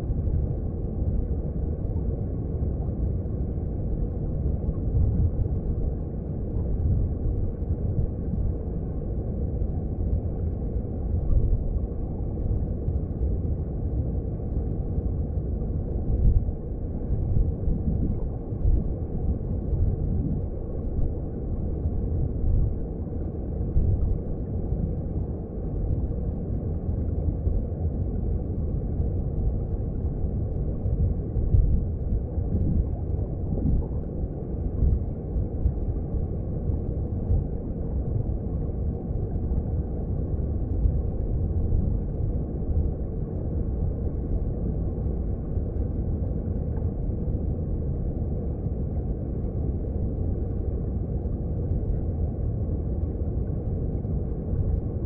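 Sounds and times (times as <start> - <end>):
underwater stream flowing: 0.0 - 55.0.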